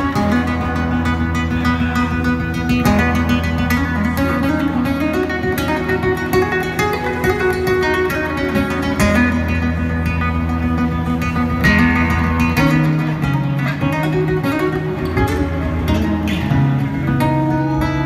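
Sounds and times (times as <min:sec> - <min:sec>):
electric guitars plucked lines: 0:00.0 - 0:18.0
steady low bass notes: 0:00.0 - 0:18.0.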